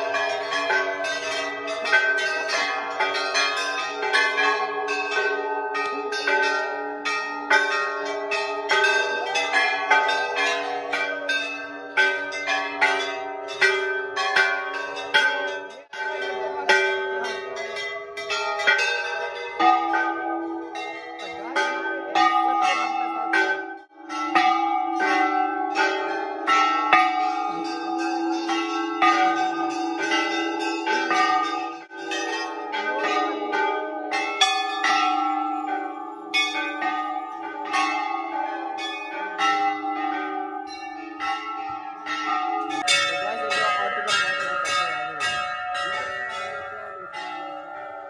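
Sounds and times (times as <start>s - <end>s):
temple bells ringing: 0.0s - 48.0s.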